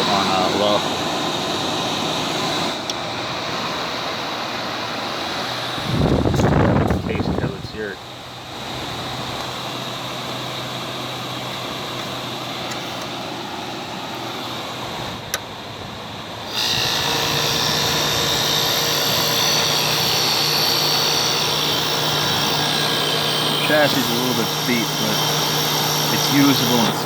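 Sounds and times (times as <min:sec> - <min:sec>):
window air conditioner running: 0:00.0 - 0:27.0.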